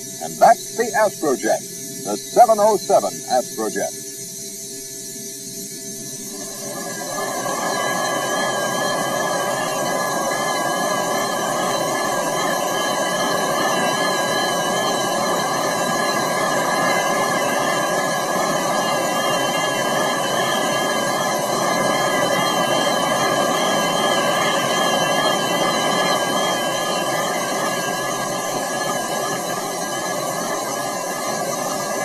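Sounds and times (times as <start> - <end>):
jet engines running: 0.0 - 3.9, 6.2 - 32.0.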